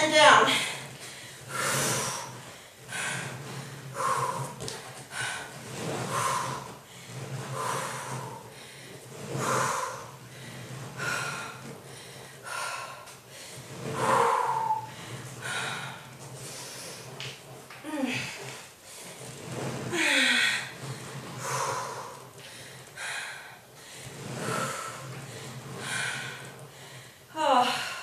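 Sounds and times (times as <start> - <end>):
woman breathing hard: 0.6 - 17.1, 19.9 - 28.0.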